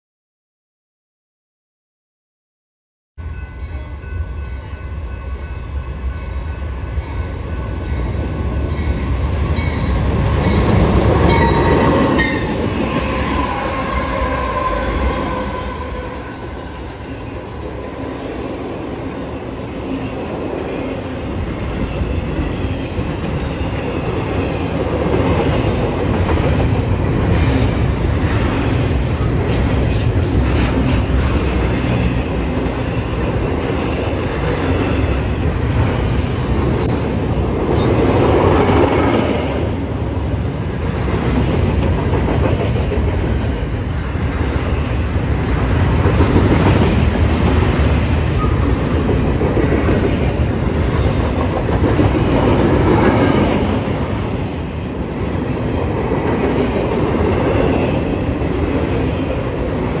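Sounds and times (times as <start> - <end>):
freight train wheels rumbling on rails: 3.3 - 60.0.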